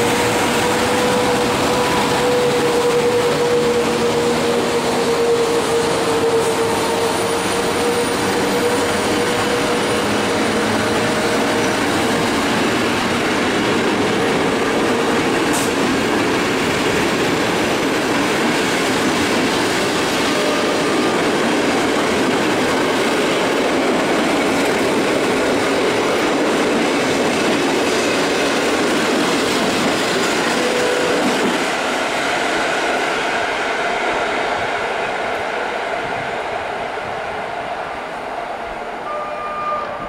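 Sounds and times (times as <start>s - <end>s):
train wheels rolling on rails: 0.0s - 40.0s.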